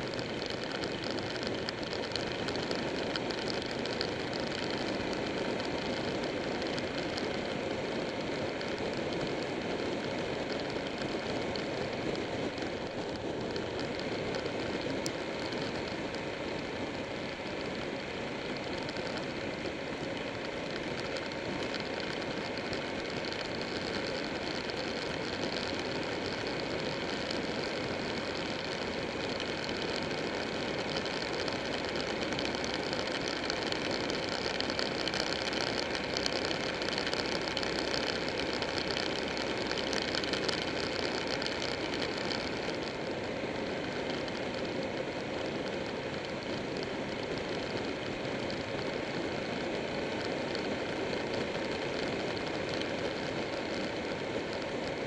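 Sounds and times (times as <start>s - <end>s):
wind and road rush: 0.0s - 55.0s.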